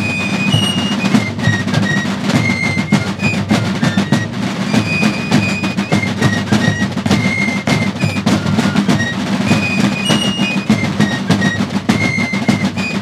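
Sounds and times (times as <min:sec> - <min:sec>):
field drums rolling rhythm: 0:00.0 - 0:13.0
fifes playing shrill melody: 0:00.0 - 0:13.0.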